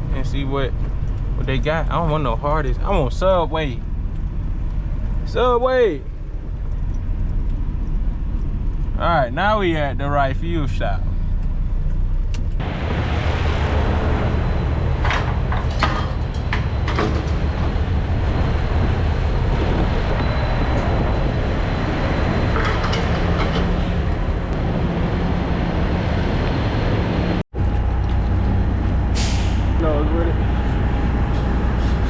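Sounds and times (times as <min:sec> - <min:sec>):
diesel truck engine running: 0:06.1 - 0:32.0.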